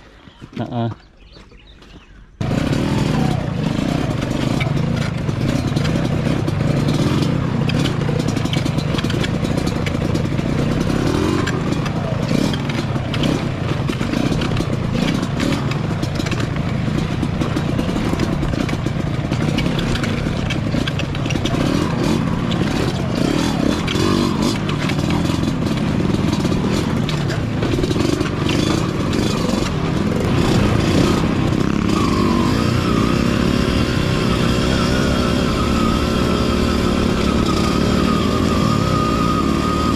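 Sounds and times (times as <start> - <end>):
motorcycle engine revving: 2.3 - 39.9.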